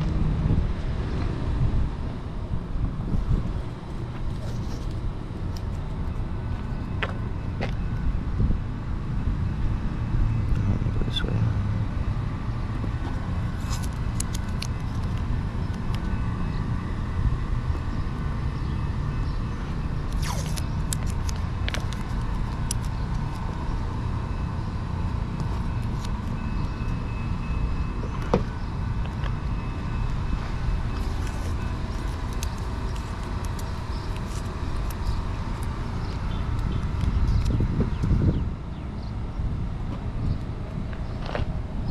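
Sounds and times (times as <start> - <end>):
vehicle traffic rumble: 0.0 - 41.9.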